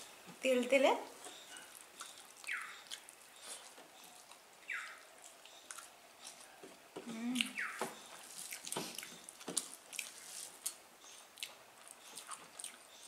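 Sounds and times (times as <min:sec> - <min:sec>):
chewing: 0:01.3 - 0:13.0
fingers squelching in wet food: 0:01.5 - 0:13.0.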